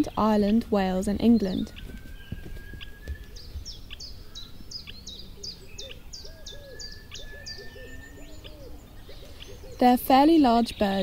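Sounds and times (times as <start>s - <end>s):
high chipping bird calls: 0.0s - 11.0s
lower looping bird notes: 0.0s - 11.0s.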